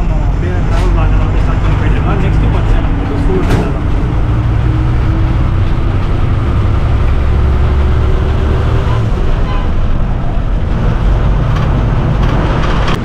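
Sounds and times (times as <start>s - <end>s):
bus engine drone: 0.0s - 13.0s
road noise rushing: 0.0s - 13.0s.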